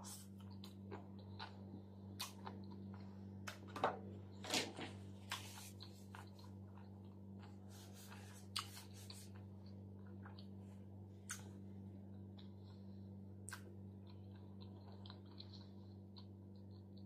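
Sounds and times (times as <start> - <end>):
steady low hum: 0.0 - 17.0
chewing crunchy salad: 0.1 - 3.1, 5.2 - 10.7, 11.3 - 17.0.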